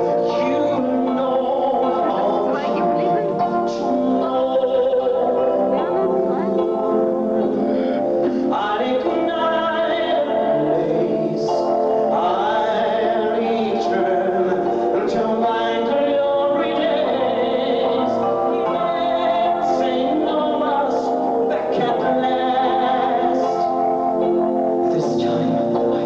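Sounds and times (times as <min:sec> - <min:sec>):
instrumental accompaniment: 0:00.0 - 0:26.0
man singing a slow ballad: 0:00.0 - 0:26.0.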